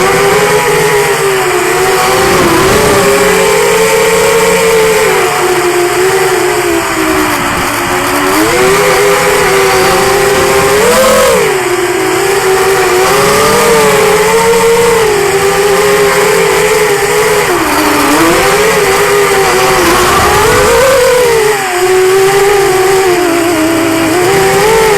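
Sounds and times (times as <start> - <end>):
drone motors and propellers whining: 0.0 - 24.9.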